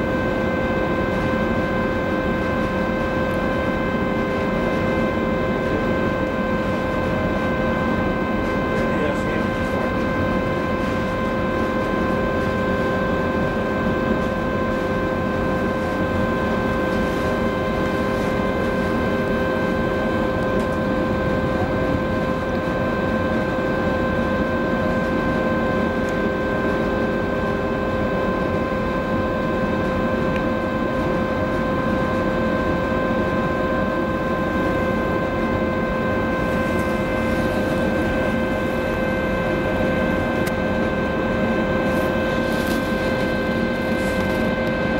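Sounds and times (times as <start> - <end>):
machinery whine: 0.0 - 44.9.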